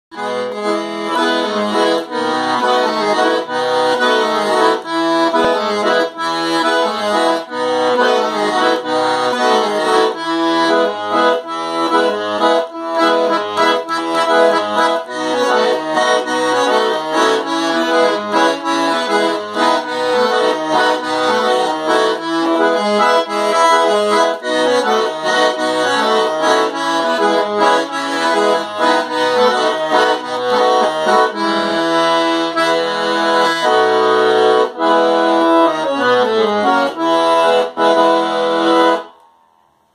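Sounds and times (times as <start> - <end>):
accordion playing: 0.1 - 39.3.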